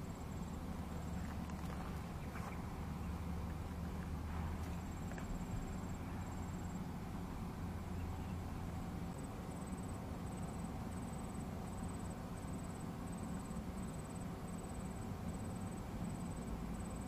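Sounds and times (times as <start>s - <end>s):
faint insect trill: 0.0s - 17.0s
low rumble and hiss: 0.0s - 17.0s.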